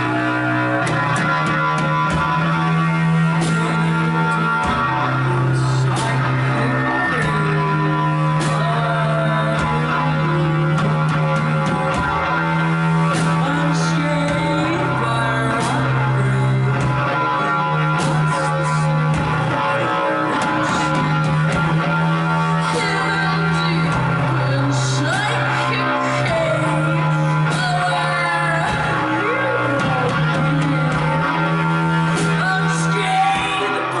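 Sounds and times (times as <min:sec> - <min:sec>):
electric guitar: 0:00.0 - 0:34.0
live rock band playing: 0:00.0 - 0:34.0.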